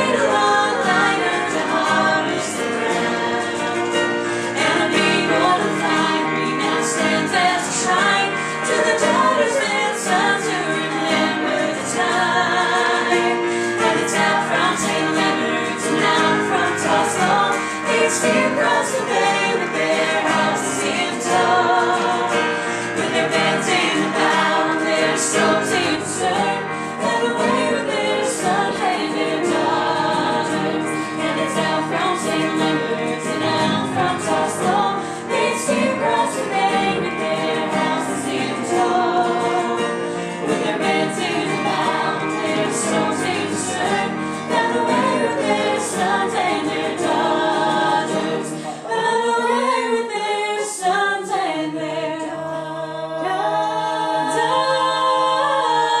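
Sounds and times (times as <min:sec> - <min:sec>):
strummed guitar: 0:00.0 - 0:49.0
electric keyboard: 0:00.0 - 0:49.1
group singing folk song: 0:00.0 - 0:56.0.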